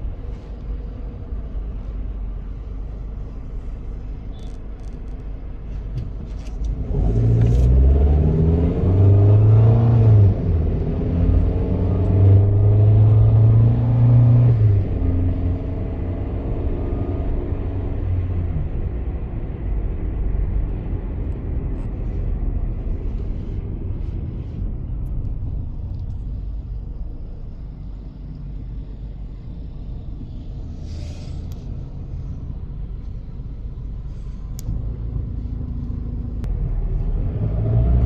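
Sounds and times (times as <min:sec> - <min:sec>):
car engines rumbling in traffic: 0:00.0 - 0:38.0.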